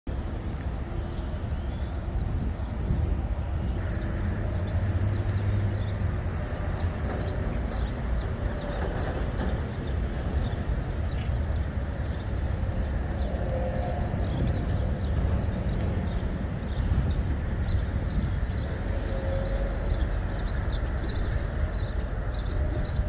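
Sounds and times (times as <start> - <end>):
low outdoor rumble: 0.1 - 23.0.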